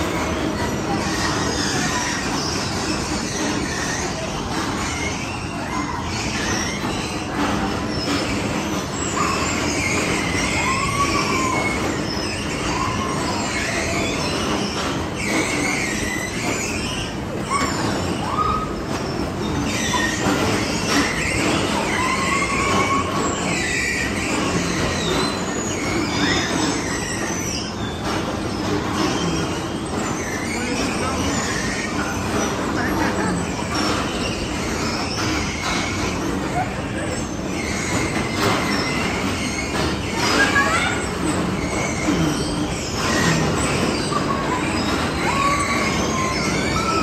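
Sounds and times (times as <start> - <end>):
bumper cars driving: 0.0 - 47.0
short high squeals: 0.0 - 47.0.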